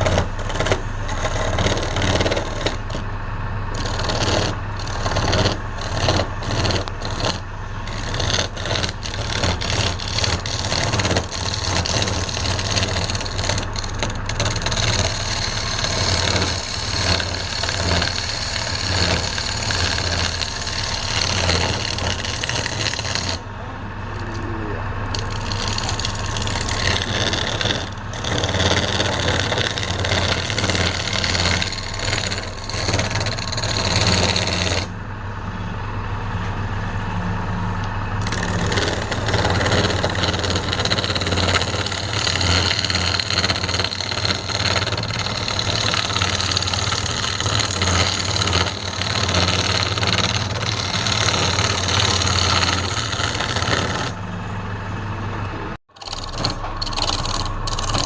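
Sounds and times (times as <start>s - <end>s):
tool cutting spinning wood: 0.0s - 35.0s, 38.0s - 58.0s
wood lathe motor humming: 0.0s - 35.6s, 37.8s - 58.0s.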